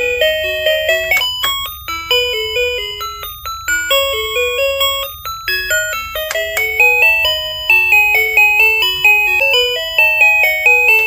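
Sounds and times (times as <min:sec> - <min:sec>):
beeping electronic toy tune: 0:00.0 - 0:11.0.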